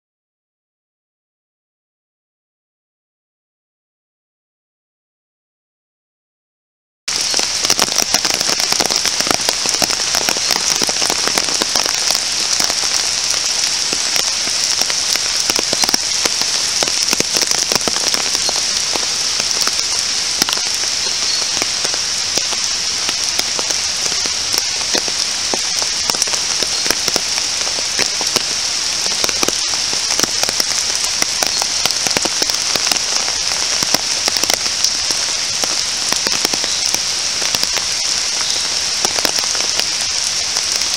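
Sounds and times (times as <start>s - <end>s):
steady rain falling: 7.1s - 40.9s.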